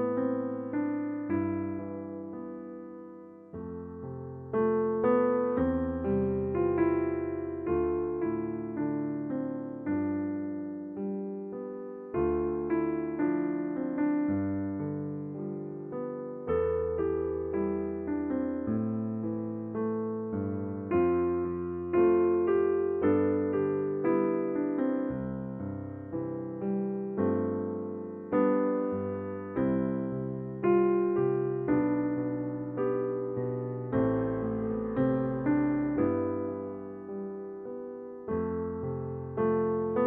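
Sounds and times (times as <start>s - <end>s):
soft electric piano music: 0.0s - 40.0s.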